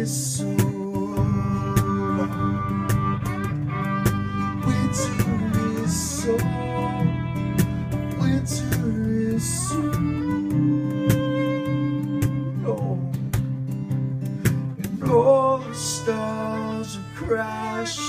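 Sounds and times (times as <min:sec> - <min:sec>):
strummed acoustic guitar chords: 0:00.0 - 0:18.0
violin melody with sliding notes: 0:00.8 - 0:13.6, 0:14.7 - 0:18.0.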